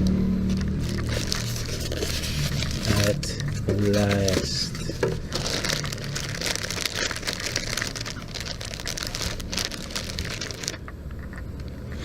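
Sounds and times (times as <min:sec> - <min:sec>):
plastic packaging crinkling: 0:00.4 - 0:11.7.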